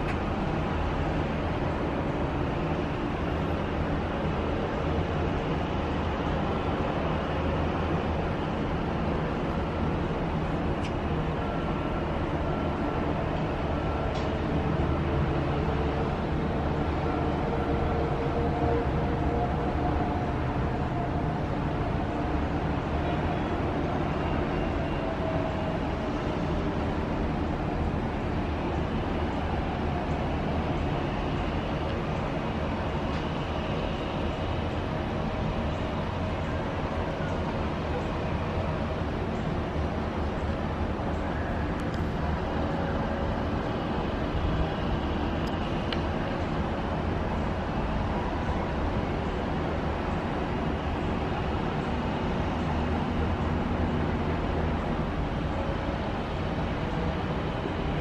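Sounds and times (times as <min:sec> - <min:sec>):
distant road traffic: 0:00.0 - 0:58.0.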